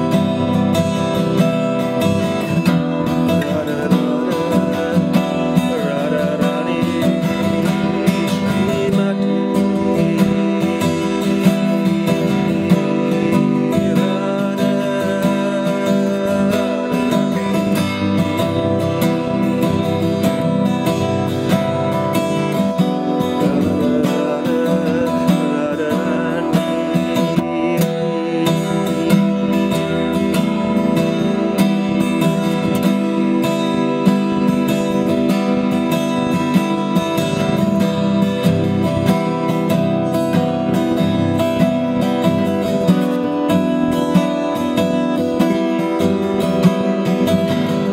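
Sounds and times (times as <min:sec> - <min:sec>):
acoustic guitar strumming: 0:00.0 - 0:47.9.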